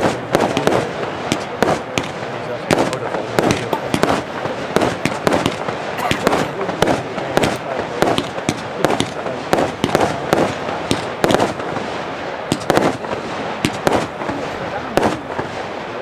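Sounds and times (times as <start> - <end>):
fireworks bangs: 0.0 - 16.0
fireworks crackle: 0.0 - 16.0.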